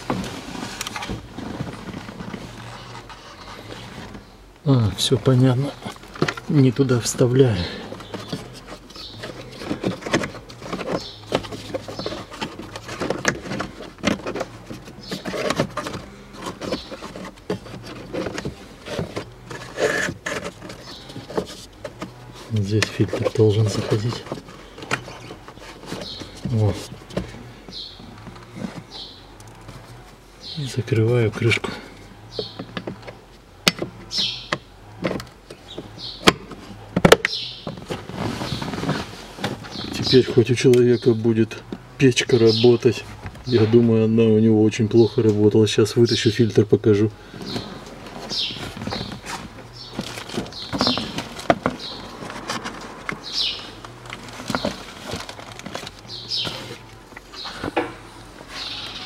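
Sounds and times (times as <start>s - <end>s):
air filter scraping plastic housing: 0.0s - 59.0s.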